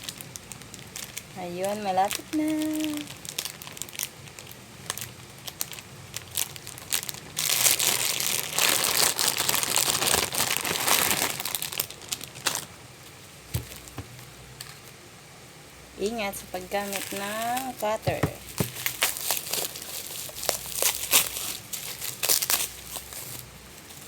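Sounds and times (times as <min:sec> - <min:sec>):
packaging crinkling and tearing: 0:00.0 - 0:12.8, 0:16.6 - 0:24.0.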